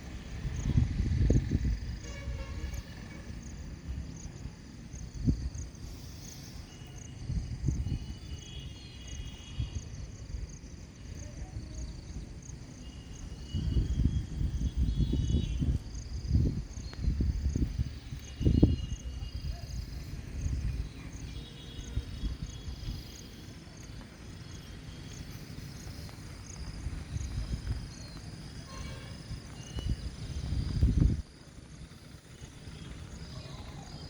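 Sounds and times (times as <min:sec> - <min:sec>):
crickets chirping: 0:00.0 - 0:34.0
wind rumble on microphone: 0:00.0 - 0:34.0.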